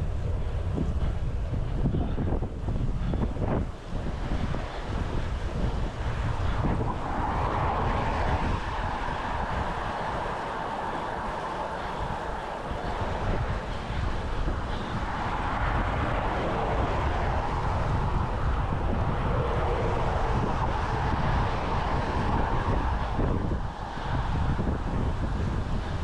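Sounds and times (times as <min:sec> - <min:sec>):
road traffic: 0:00.0 - 0:26.0
wind on microphone: 0:00.0 - 0:26.0.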